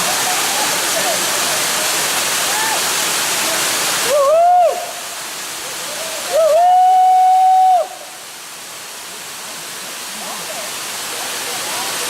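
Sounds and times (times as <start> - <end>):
rushing waterfall: 0.0 - 12.0.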